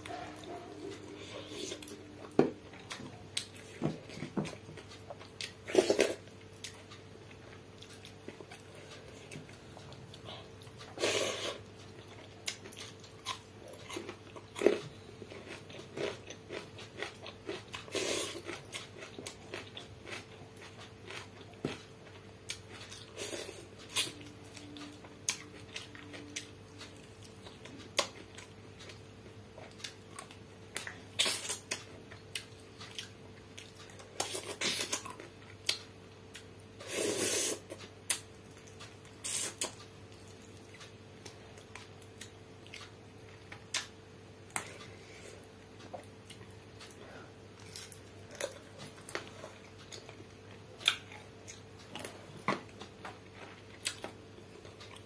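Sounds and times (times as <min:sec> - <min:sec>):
person chewing and mouth smacks: 0:00.0 - 0:43.9, 0:44.5 - 0:55.0.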